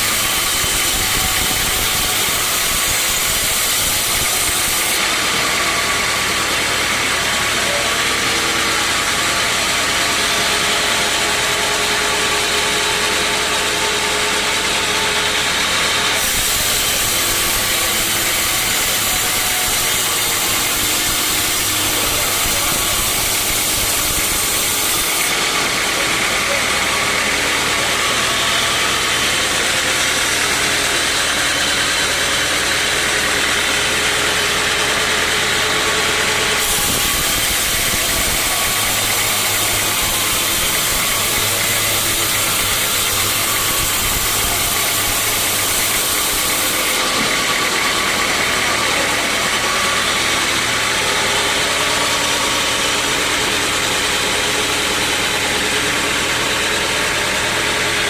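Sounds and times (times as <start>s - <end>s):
saw blade cutting log: 0.0s - 58.0s
sawmill saw running: 0.0s - 58.0s.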